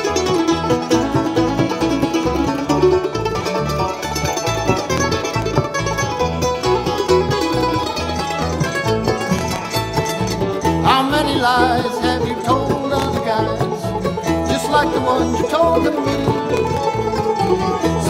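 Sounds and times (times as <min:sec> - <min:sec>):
plucked-string picking: 0:00.0 - 0:18.0
steady bass line: 0:00.0 - 0:18.0.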